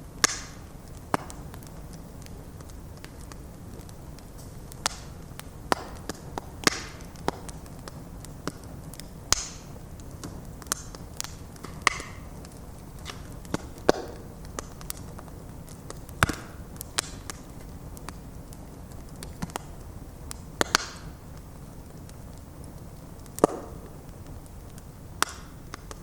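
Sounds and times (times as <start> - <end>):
burning wood crackling and popping: 0.0 - 26.0
flames rumbling: 0.0 - 26.0.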